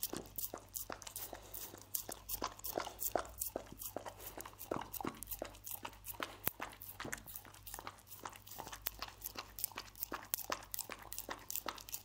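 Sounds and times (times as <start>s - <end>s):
dog licking wet smacking: 0.0s - 12.0s.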